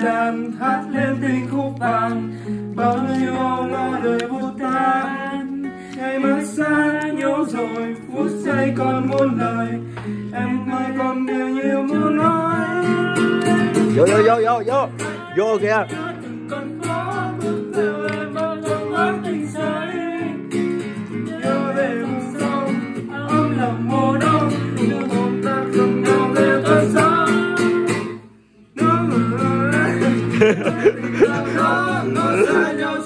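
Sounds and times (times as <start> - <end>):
man singing a ballad: 0.0 - 20.5, 21.1 - 28.1, 28.7 - 33.0
strummed acoustic guitar: 0.0 - 33.0.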